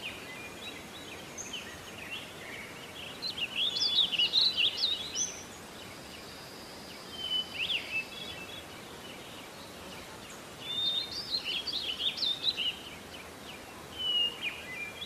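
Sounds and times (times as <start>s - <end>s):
small songbirds chirping: 0.0s - 15.0s
steady hiss: 0.0s - 15.0s.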